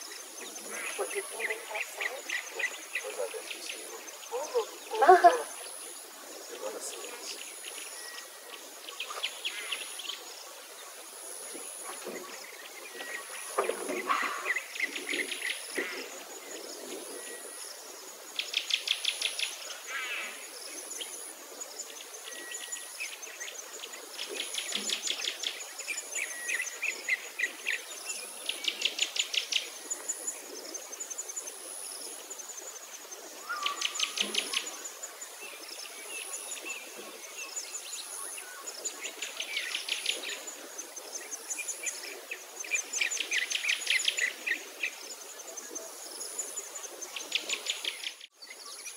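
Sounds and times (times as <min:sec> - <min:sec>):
rapid insect trill: 0:00.0 - 0:48.9.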